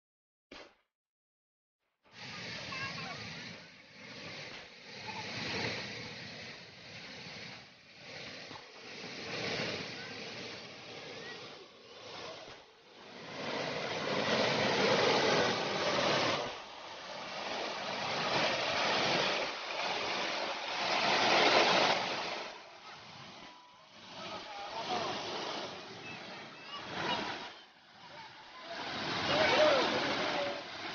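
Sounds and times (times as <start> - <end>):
small waterfall rushing: 2.2 - 30.9.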